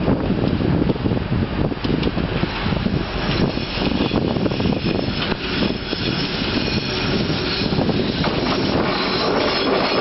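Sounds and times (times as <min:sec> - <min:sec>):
diesel locomotive engine running: 0:01.4 - 0:10.0.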